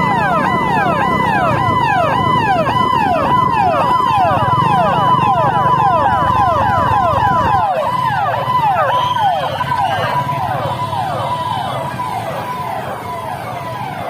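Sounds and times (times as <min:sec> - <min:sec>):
police sirens yelping: 0:00.0 - 0:14.0.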